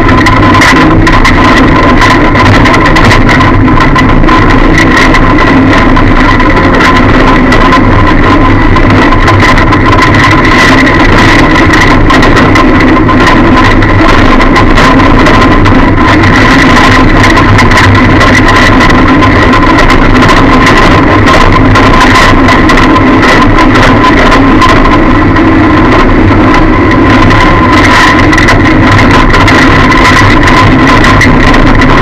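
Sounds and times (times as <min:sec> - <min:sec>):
distorted car engine running: 0:00.0 - 0:32.0
high whine: 0:00.0 - 0:32.0
rapid knocking rattle: 0:00.0 - 0:32.0.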